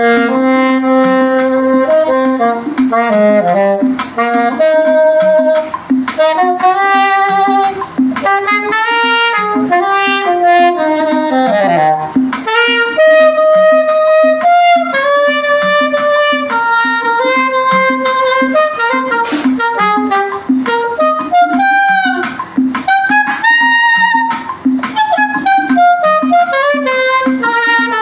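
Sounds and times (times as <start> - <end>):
backing track with steady beat: 0.0 - 28.0
saxophone playing hymn melody: 0.0 - 28.0.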